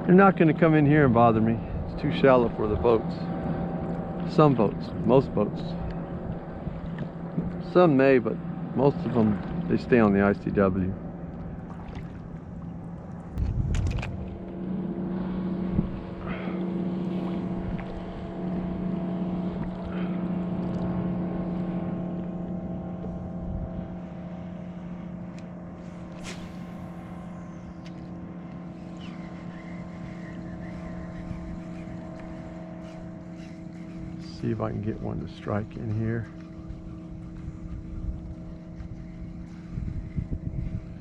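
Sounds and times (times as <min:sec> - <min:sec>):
motorboat engine droning: 0:00.0 - 0:41.0.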